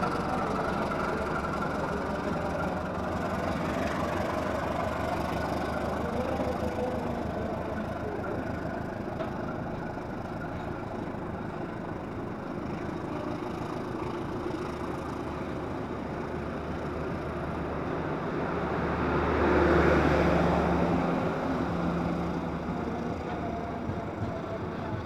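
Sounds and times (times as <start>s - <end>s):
diesel generator droning: 0.0s - 25.0s
train rolling past: 0.0s - 25.0s.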